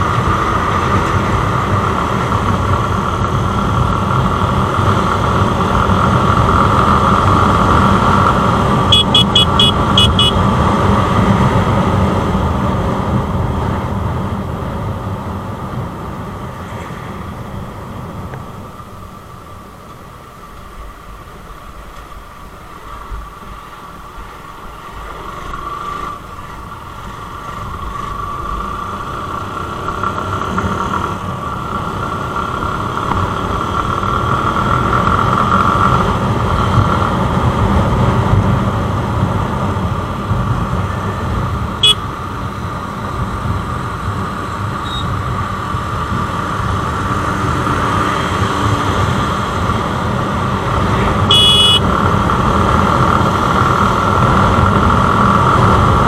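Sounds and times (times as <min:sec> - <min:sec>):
motorcycle engine: 0:00.0 - 0:19.6, 0:25.0 - 0:56.0.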